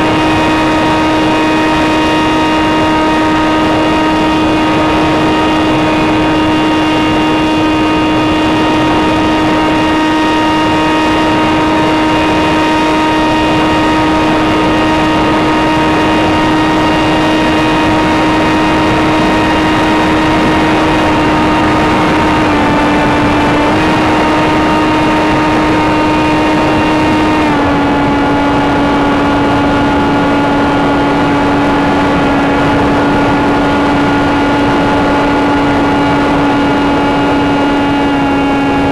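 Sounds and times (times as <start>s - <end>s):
electric motor and propeller whine: 0.0s - 38.9s
rushing wind noise: 0.0s - 38.9s.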